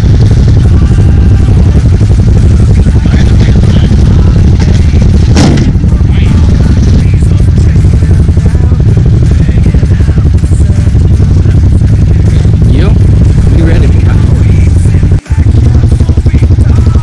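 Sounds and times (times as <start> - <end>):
quad engine rumbling: 0.0 - 17.0.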